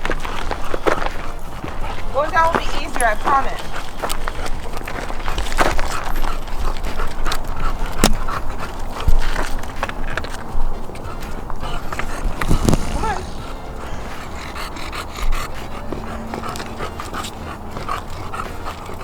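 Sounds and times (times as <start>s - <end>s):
dog breathing hard: 0.0s - 19.0s
footsteps on rock and gravel: 0.0s - 19.0s.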